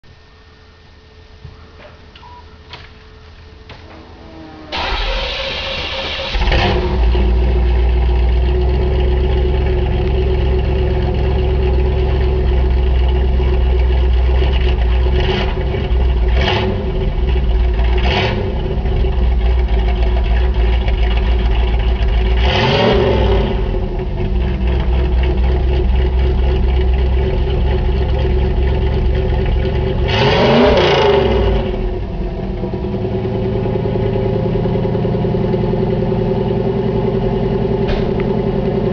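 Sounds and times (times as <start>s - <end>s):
car engine cranking: 4.7s - 38.9s
car engine idling and revving: 4.8s - 38.9s.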